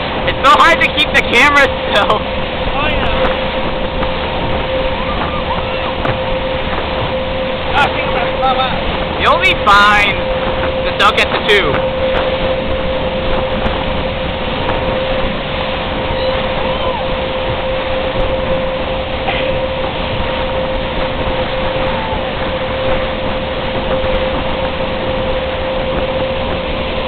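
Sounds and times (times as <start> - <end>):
motorboat engine whine: 0.0 - 27.0
wake rushing: 0.0 - 27.0
wind: 0.0 - 27.0.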